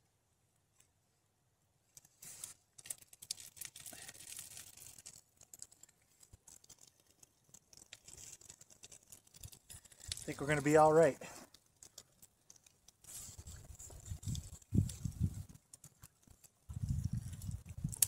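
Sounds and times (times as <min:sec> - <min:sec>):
wood fire crackling: 0:01.9 - 0:18.0.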